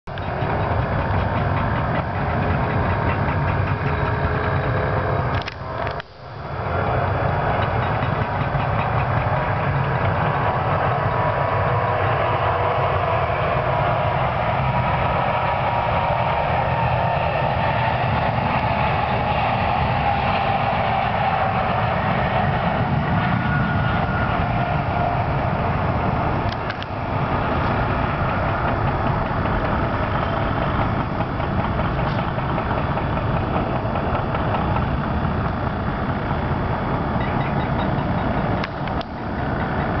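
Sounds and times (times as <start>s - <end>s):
jet engines at takeoff thrust: 0.1s - 40.0s.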